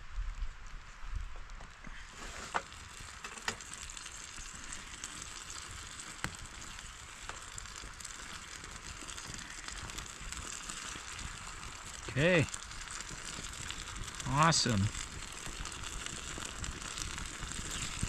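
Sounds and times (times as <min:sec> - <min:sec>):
gravy simmering and sizzling: 0:00.0 - 0:18.0.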